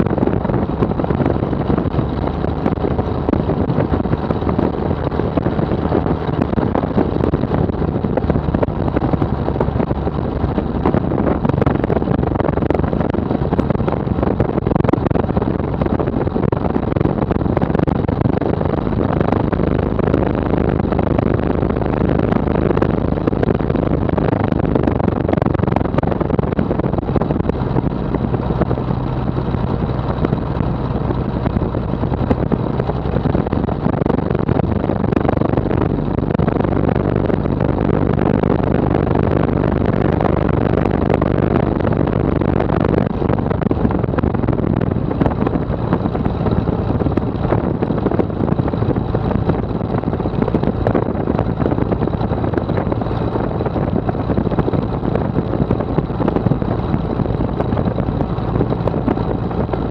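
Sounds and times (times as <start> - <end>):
propeller plane engine running: 0.0 - 59.9.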